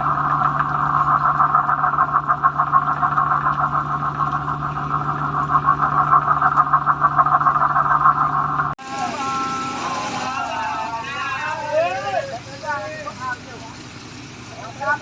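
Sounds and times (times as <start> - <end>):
boat engine pulsing: 0.0 - 15.0.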